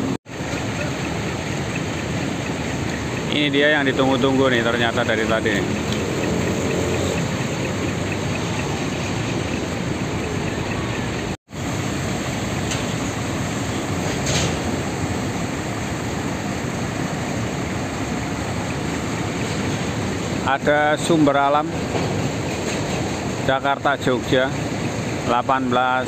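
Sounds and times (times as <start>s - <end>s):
diesel bus engines idling: 0.0s - 26.0s.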